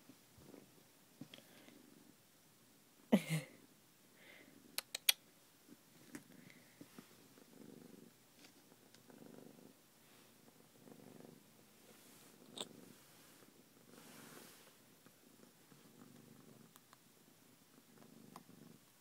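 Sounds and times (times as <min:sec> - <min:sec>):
cat purring: 0:00.3 - 0:02.3, 0:03.4 - 0:04.9, 0:05.6 - 0:19.0.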